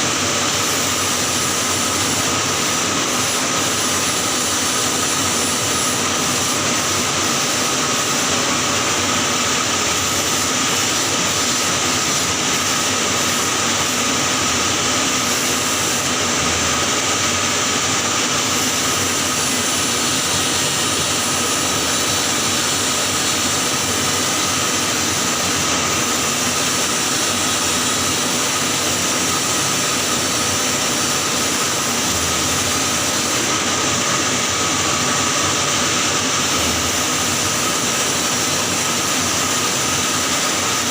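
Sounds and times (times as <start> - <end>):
welding arc hiss: 0.0 - 40.9.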